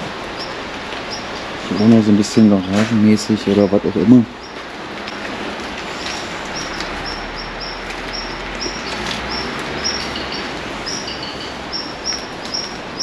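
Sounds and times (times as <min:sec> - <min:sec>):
steady rushing hiss: 0:00.0 - 0:13.0
small bird chirping: 0:00.4 - 0:05.2, 0:06.0 - 0:13.0.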